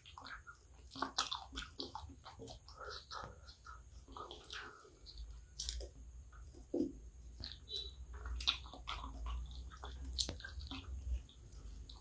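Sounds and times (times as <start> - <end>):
chewing and biting chicken: 0.0 - 5.9, 6.6 - 12.0.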